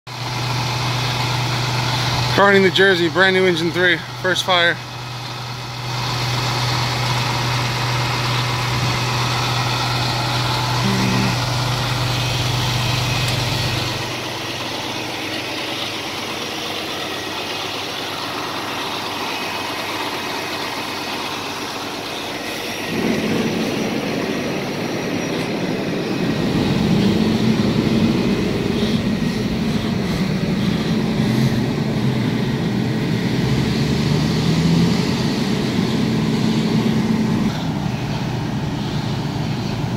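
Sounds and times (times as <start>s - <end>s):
diesel engine idling: 0.1s - 39.9s.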